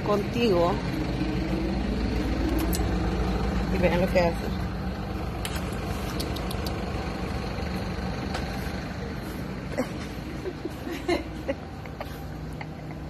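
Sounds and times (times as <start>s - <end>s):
low rumble and hum: 0.0s - 13.0s.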